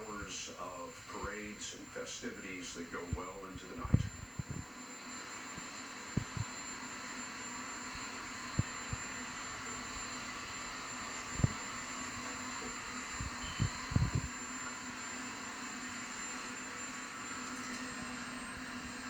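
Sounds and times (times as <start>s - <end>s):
helicopter turbine rush and whine: 0.0s - 19.0s.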